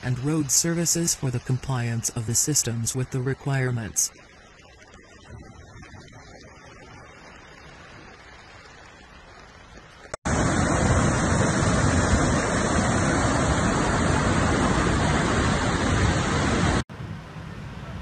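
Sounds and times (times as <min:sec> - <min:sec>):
floodwater rushing: 0:00.0 - 0:16.8.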